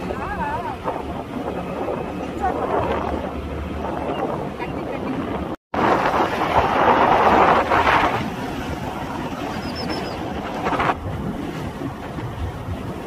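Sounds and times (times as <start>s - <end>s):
road noise: 0.0s - 13.0s
vehicle engine: 0.0s - 13.0s
wind rushing over microphone: 0.0s - 13.0s.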